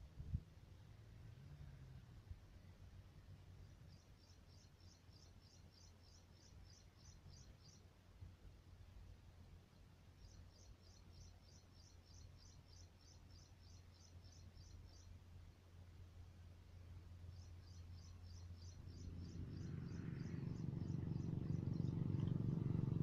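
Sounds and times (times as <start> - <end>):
low outdoor hum: 0.0 - 23.0.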